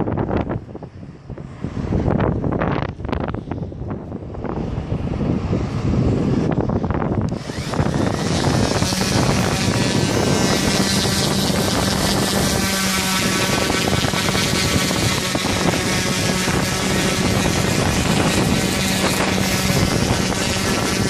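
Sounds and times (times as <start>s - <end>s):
electric orbital sander running: 0.0s - 21.0s
wind buffeting microphone: 0.0s - 21.0s.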